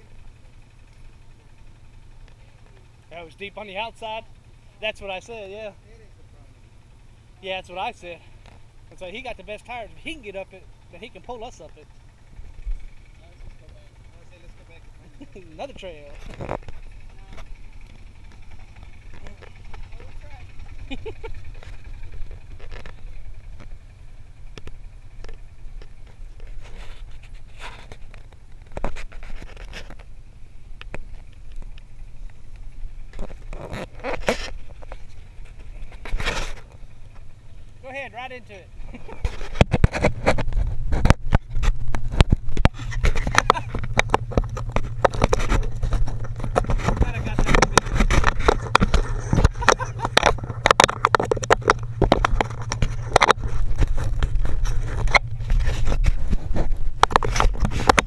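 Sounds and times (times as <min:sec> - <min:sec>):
engine rumbling slowly: 0:00.0 - 0:58.0
sharp clicks and rattles: 0:00.0 - 0:58.0
scratching and scraping: 0:07.4 - 0:58.0.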